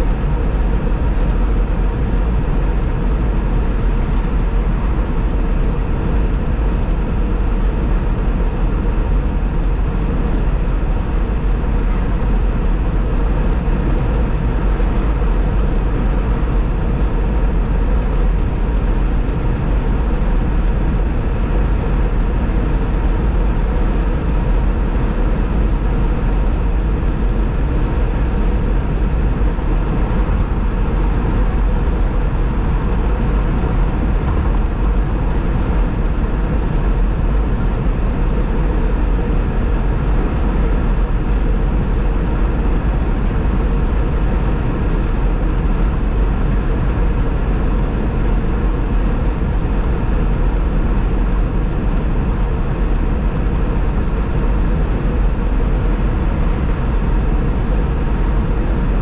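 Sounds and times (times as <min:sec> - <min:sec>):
car road noise at speed: 0:00.0 - 0:59.0
faint steady hum: 0:00.0 - 0:59.0.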